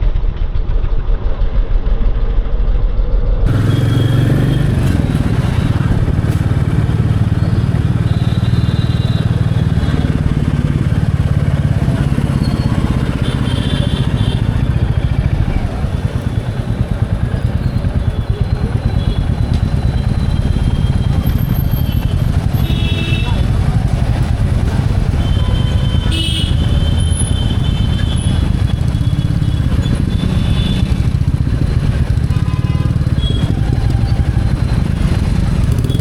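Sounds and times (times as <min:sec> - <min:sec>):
motorcycle engine running: 0:03.5 - 0:36.0.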